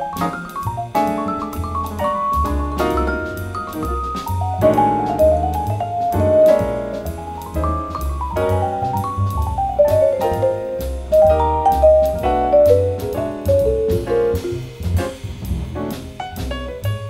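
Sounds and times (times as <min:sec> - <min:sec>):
jazz quartet playing: 0:00.0 - 0:17.0
walking bass notes: 0:00.0 - 0:17.0.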